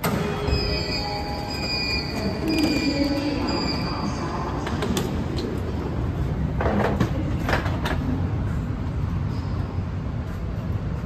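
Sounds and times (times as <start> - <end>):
metro platform hum: 0.0 - 11.0.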